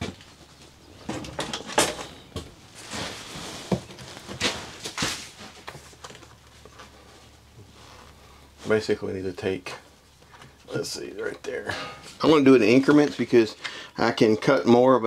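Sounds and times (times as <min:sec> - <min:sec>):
rustling and scraping: 0:00.0 - 0:14.6.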